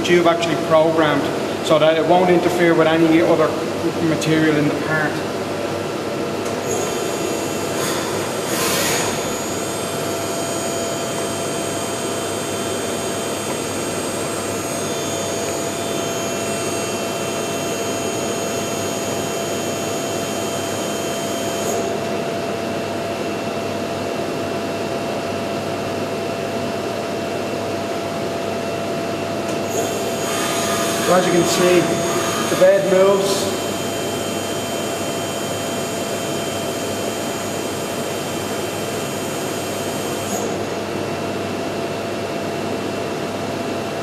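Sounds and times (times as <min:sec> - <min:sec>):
machine spindle whirring and whining: 0:06.2 - 0:25.9, 0:27.8 - 0:44.0.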